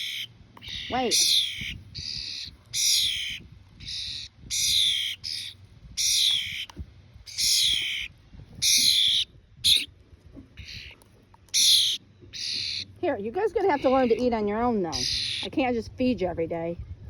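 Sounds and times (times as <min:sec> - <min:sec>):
young birds begging calls: 0:00.0 - 0:09.9, 0:10.6 - 0:15.8.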